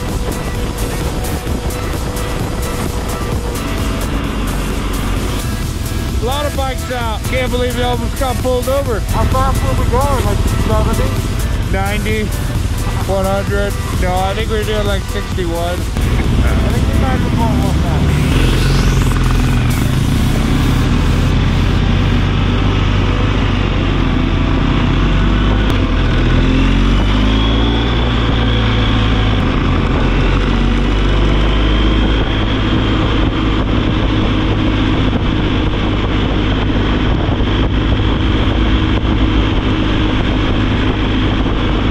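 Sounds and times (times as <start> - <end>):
motorcycle engine accelerating: 0.0 - 41.9
wind noise: 0.0 - 41.9.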